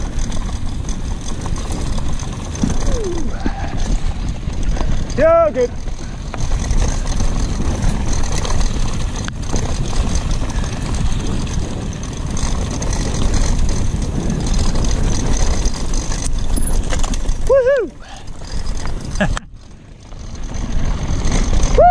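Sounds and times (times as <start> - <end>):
wind buffeting the microphone: 0.0 - 19.4
rolling and rattling noise: 0.0 - 21.9.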